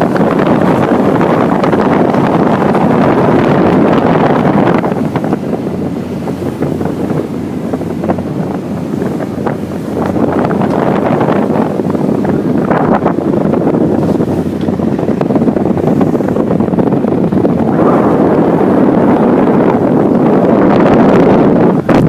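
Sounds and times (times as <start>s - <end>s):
boat engine: 0.0s - 22.0s
rushing water: 0.0s - 22.0s
wind buffeting microphone: 0.0s - 22.0s.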